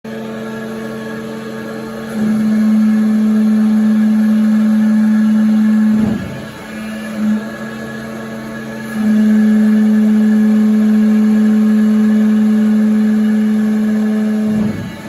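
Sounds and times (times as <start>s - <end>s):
press machine motor hum: 0.1s - 15.0s.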